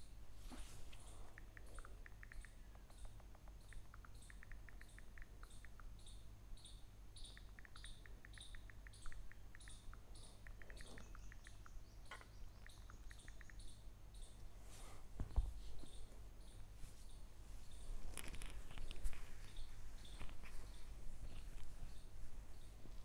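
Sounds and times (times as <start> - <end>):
faint bird chirping: 0.0 - 23.0
low electrical hum: 0.0 - 23.0
small ticks: 0.8 - 14.5, 17.6 - 23.0.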